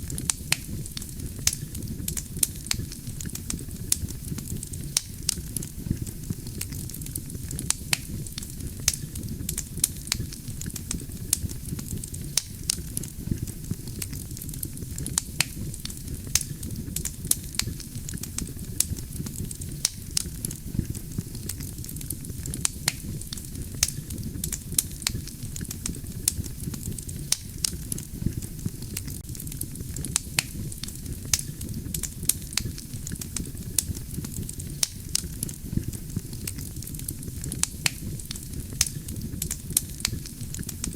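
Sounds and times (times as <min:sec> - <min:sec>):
burning logs crackling and popping: 0:00.0 - 0:40.9
low rumble of flames: 0:00.0 - 0:40.9.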